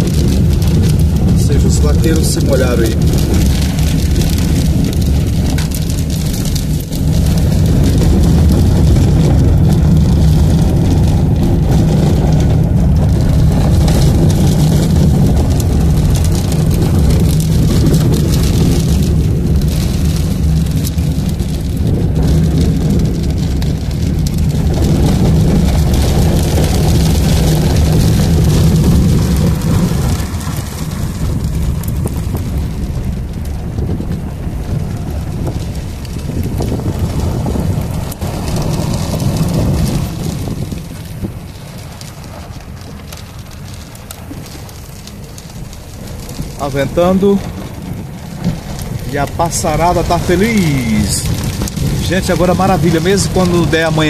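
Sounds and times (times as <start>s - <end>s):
car engine and road drone: 0.0s - 54.0s
rain hitting windshield: 0.0s - 54.0s.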